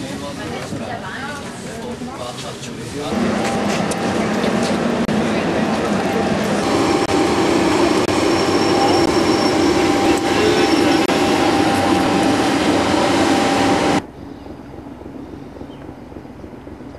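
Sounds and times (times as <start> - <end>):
train wheels rumbling: 0.8 - 16.9.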